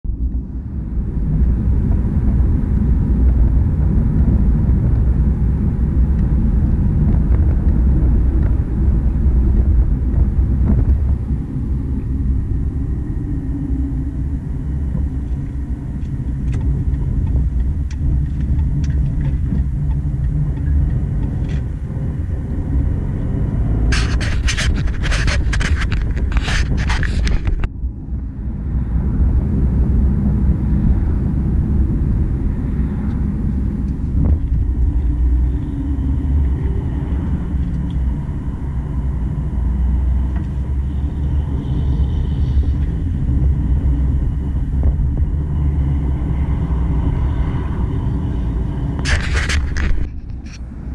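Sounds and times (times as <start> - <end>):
car road and engine rumble: 0.0 - 50.9.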